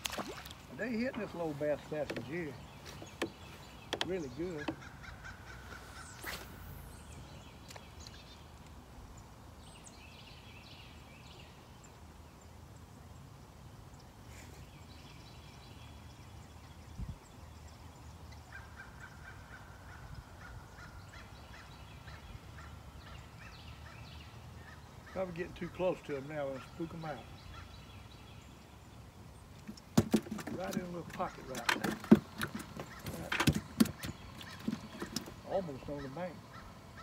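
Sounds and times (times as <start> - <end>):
distant birds chattering: 0.0 - 37.0.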